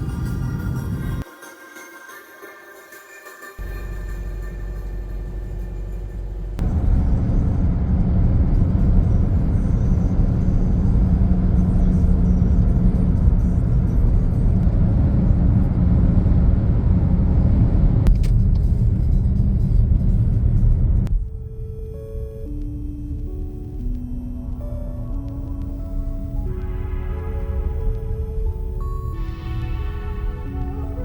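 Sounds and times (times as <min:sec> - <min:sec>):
vehicle rumbling in motion: 0:03.6 - 0:31.0.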